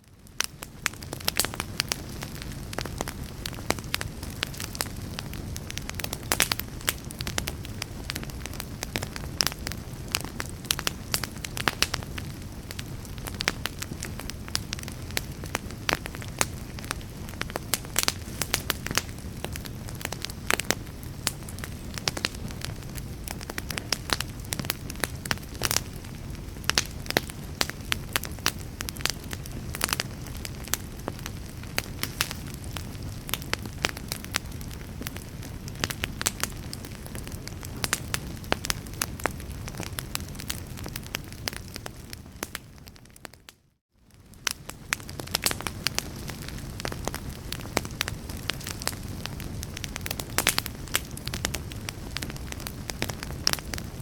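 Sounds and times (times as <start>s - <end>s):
low rumble of flames: 0.0s - 54.0s
wood fire crackling: 0.0s - 54.0s.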